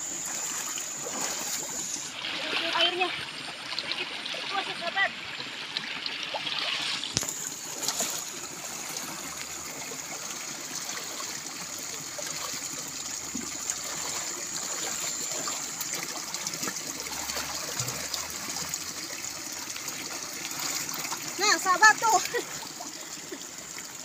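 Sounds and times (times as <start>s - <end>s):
stream water trickling: 0.0s - 24.0s.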